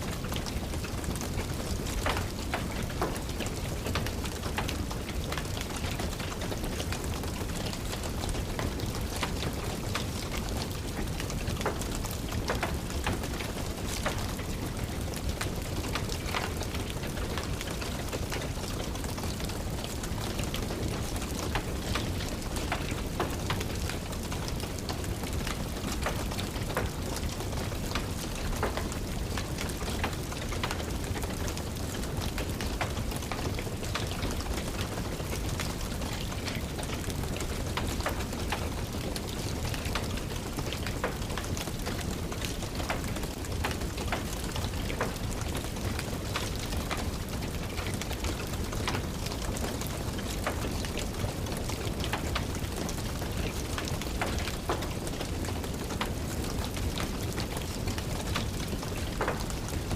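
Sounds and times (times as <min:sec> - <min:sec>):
steady rain falling: 0:00.0 - 0:59.9
wood fire crackling: 0:00.0 - 0:59.9.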